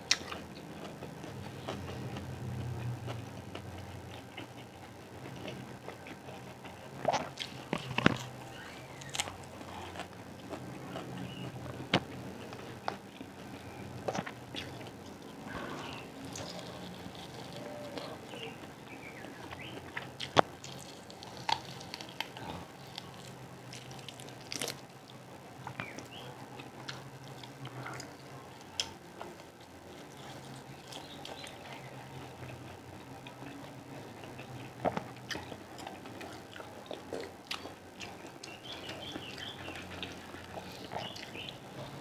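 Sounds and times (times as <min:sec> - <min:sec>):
chewing and biting food: 0:00.0 - 0:24.9, 0:25.6 - 0:42.0
faint low hum: 0:00.0 - 0:42.0.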